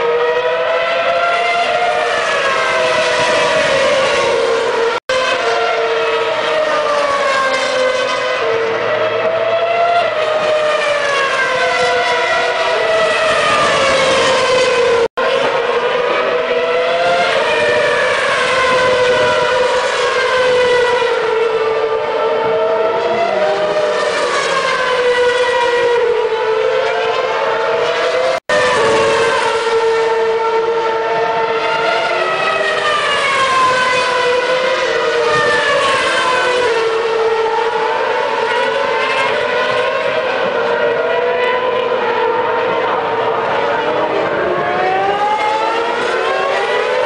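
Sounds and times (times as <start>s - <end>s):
racing car engines revving: 0.0s - 47.0s.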